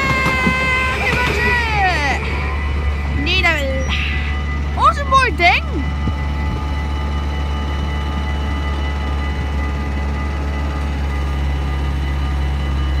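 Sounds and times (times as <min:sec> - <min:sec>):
heavy vehicle engine rumbling: 0:00.0 - 0:13.0
thin steady whine: 0:00.0 - 0:13.0.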